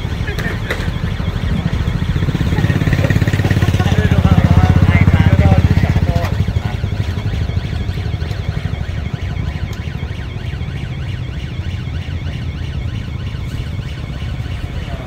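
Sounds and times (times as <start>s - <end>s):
small engine idling: 0.0s - 13.2s.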